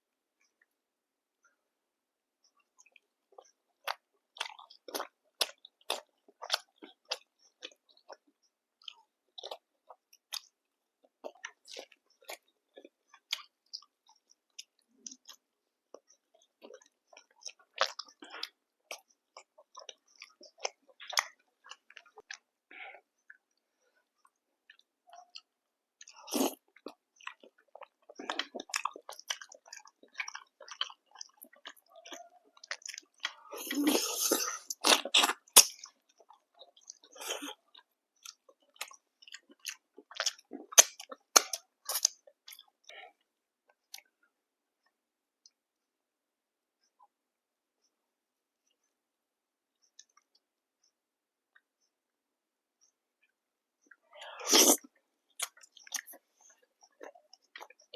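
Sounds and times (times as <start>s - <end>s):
wet chewing and crunching: 2.5s - 44.1s, 52.8s - 57.9s.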